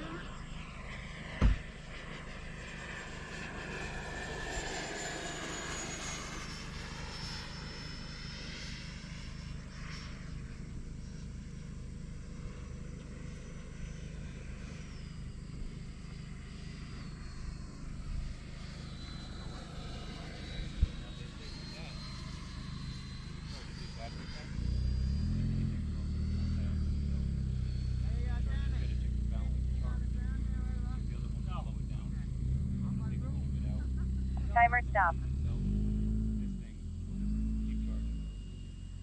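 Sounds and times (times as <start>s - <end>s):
model jet ducted-fan whine: 0.0s - 35.3s.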